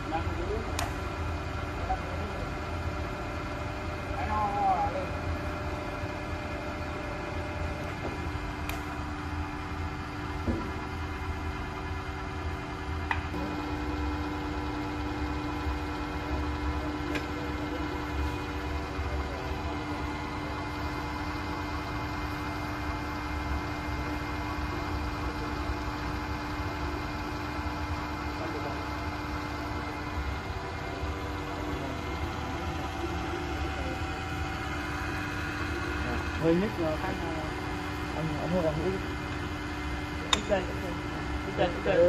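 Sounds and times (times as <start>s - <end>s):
machine motor humming: 0.0s - 42.0s.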